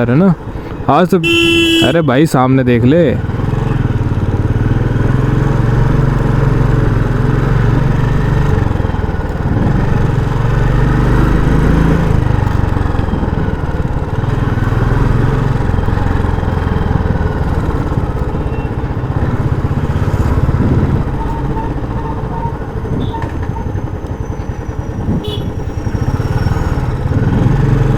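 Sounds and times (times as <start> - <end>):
motorcycle engine running: 1.2 - 2.0, 3.0 - 27.9.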